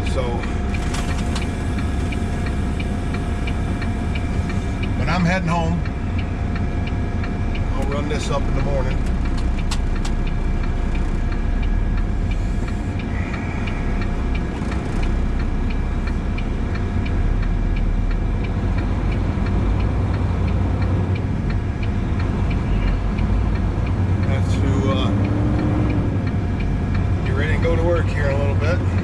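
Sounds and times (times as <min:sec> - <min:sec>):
light regular ticking: 0:00.0 - 0:29.0
truck engine and road rumble: 0:00.0 - 0:29.0.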